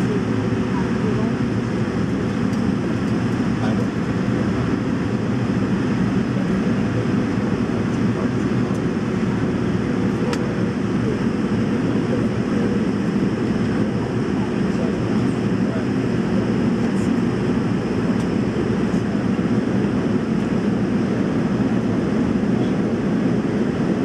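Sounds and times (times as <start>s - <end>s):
airliner cabin engine roar: 0.0s - 24.0s.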